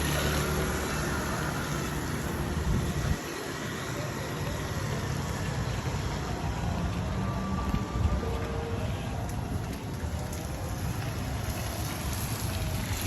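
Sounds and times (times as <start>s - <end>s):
engine rumble: 0.0s - 13.0s
traffic hiss on wet road: 0.0s - 13.0s.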